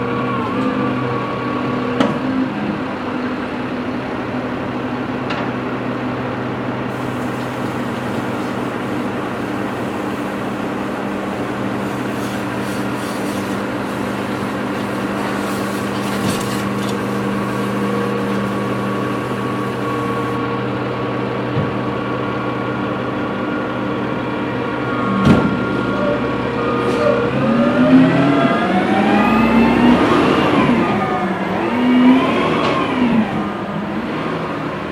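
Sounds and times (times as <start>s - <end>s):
truck engine idling and revving: 0.0s - 34.9s.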